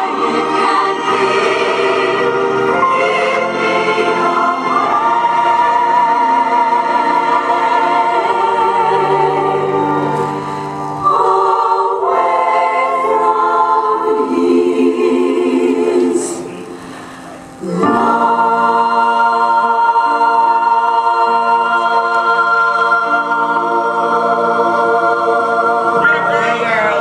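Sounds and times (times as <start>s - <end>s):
choir singing in harmony: 0.0s - 27.0s.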